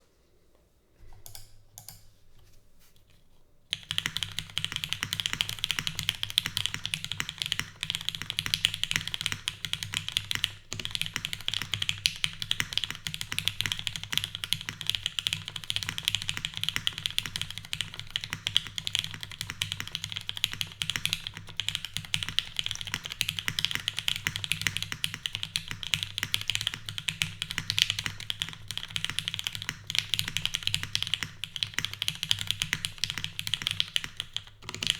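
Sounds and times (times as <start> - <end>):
mechanical keyboard typing: 3.7 - 34.9.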